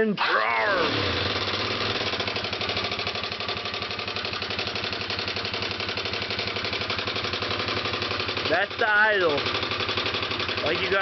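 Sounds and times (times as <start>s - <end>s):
motorcycle engine idling: 0.8s - 11.0s.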